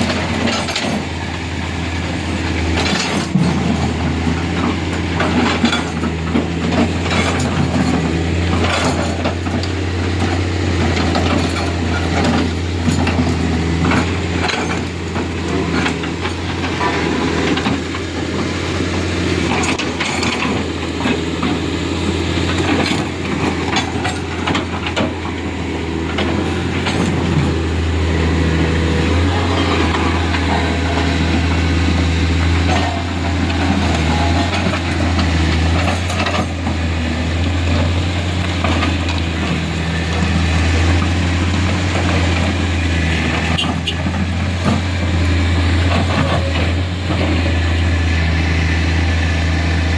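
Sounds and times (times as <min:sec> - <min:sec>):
diesel engine running: 0:00.0 - 0:49.9
metallic clanks and knocks: 0:02.5 - 0:21.7, 0:22.4 - 0:48.2.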